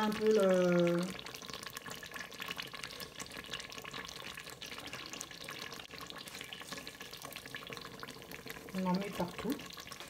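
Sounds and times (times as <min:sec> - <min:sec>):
sauce simmering crackle: 0:00.0 - 0:10.0.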